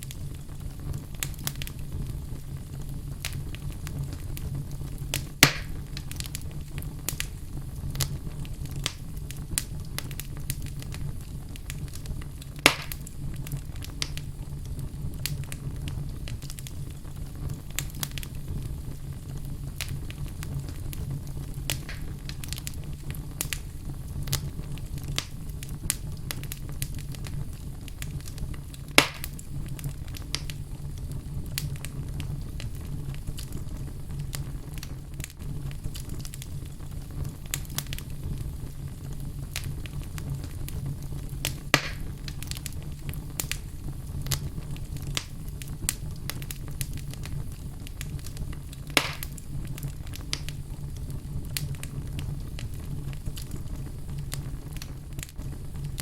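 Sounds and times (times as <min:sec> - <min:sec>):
fire rumbling and crackling: 0:00.0 - 0:56.0
loud fire pops: 0:00.0 - 0:56.0.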